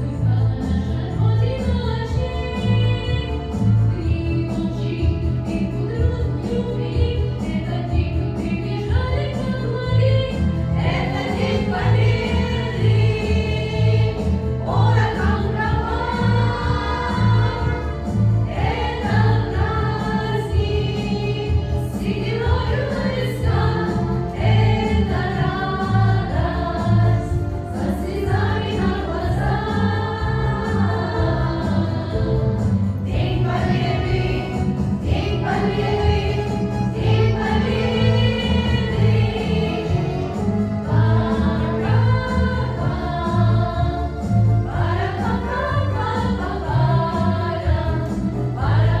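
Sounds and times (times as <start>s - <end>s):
choir singing: 8.8s - 49.0s.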